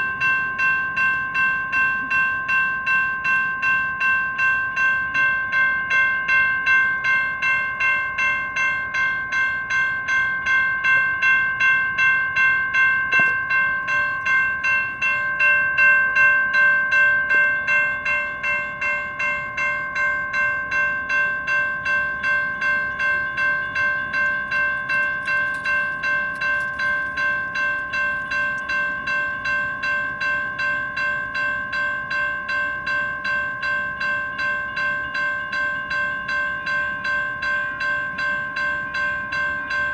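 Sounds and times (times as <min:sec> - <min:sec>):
railroad crossing bells ringing: 0:00.0 - 0:39.9.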